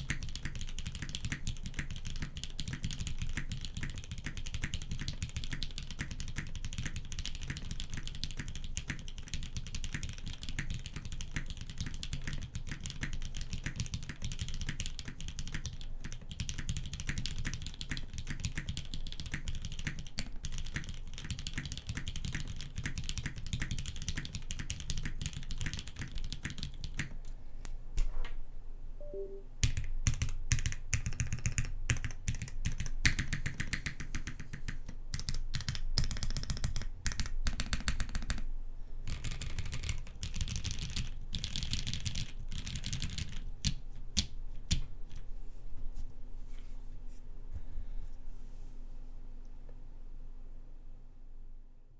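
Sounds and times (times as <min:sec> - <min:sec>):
fast typing on mechanical keyboard: 0:00.0 - 0:27.2, 0:29.6 - 0:44.9.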